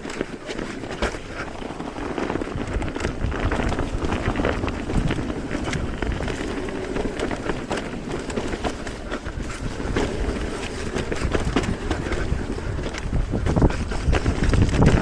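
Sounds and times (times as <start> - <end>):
bike clattering and knocking: 0.0 - 15.0
bike tyres rumbling on dirt: 0.0 - 15.0
wind on microphone: 0.0 - 15.0.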